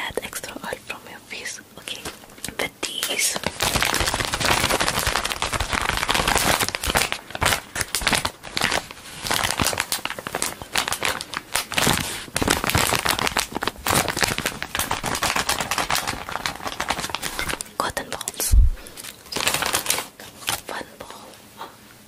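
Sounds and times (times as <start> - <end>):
plastic bag crinkling: 1.8 - 20.8.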